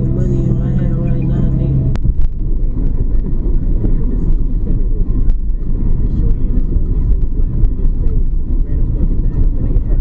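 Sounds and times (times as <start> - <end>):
car cabin rumble on wet road: 0.0 - 10.0.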